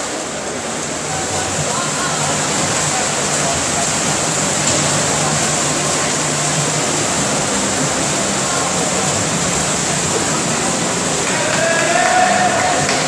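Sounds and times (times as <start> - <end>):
swimmers splashing water: 0.0 - 13.0.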